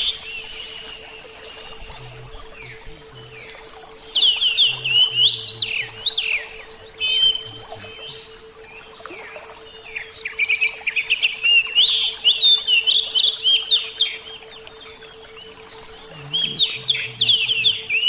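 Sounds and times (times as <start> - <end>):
bird singing whistles and chirps: 0.0 - 14.2, 15.0 - 18.0
faint steady hum: 0.0 - 18.0.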